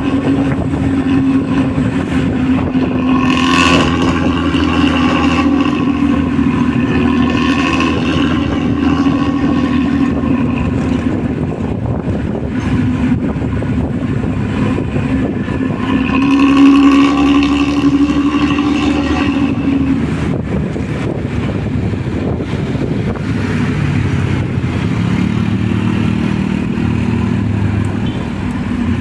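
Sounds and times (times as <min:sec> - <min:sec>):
diesel bus engine growling: 0:00.0 - 0:29.0.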